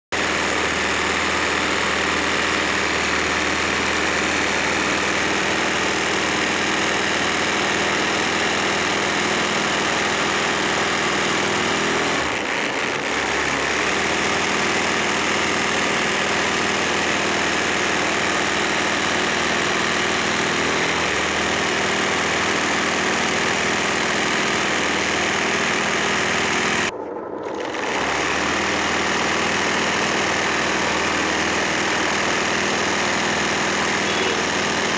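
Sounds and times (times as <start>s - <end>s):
embroidery machine humming: 0.2s - 34.9s.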